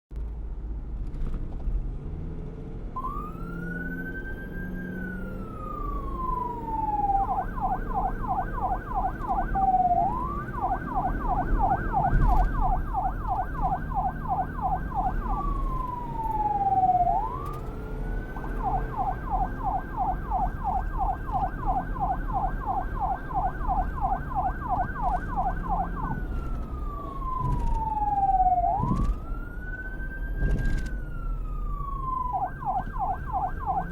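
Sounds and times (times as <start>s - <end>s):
police siren wailing and yelping: 3.0s - 33.9s.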